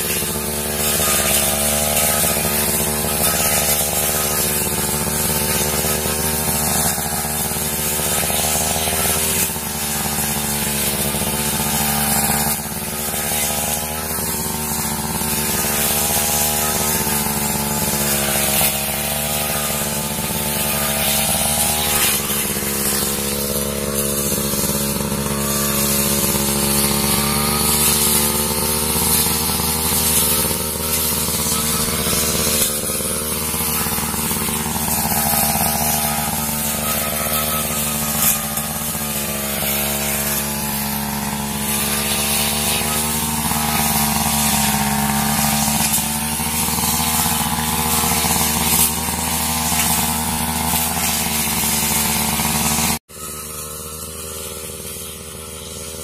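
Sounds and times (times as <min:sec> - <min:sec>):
brush cutter engine running: 0:00.0 - 0:56.0.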